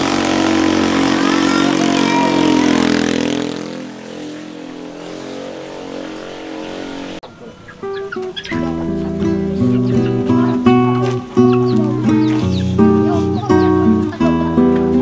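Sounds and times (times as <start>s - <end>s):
motorcycle engine passing: 0.0s - 15.0s.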